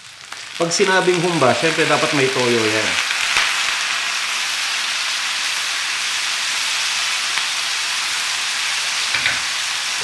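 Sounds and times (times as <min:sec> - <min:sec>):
sauce sizzling in a wok: 0:00.0 - 0:10.0.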